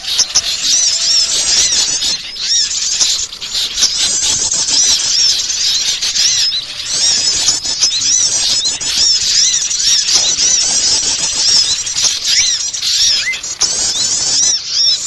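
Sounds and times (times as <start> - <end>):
songbirds chirping and chattering: 0.0 - 15.0.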